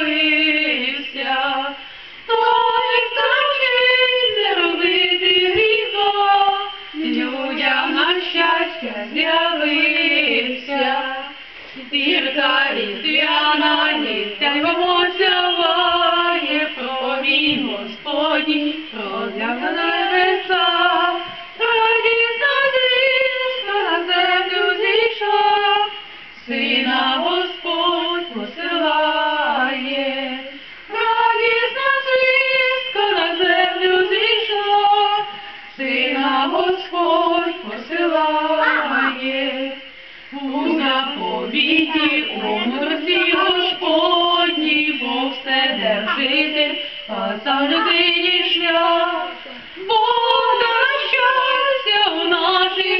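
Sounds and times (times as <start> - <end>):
woman and boys singing unaccompanied: 0.0 - 52.9.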